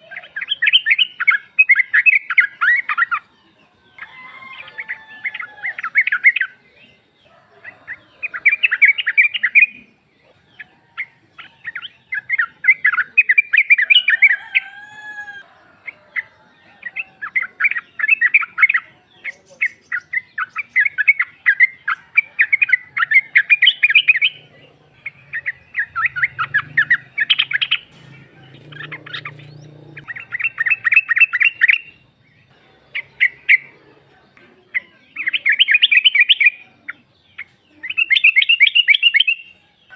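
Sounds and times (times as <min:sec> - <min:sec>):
bulbul chattering call: 0:00.0 - 0:39.9.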